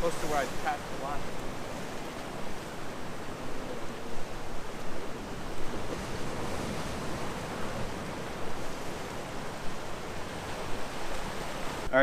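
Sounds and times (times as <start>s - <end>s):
surf against rocky shore: 0.0s - 12.0s
wind rumbling on microphone: 0.0s - 12.0s.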